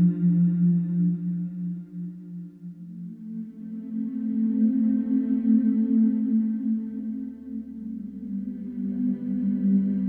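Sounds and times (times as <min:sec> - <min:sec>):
calm ambient music: 0:00.0 - 0:10.0.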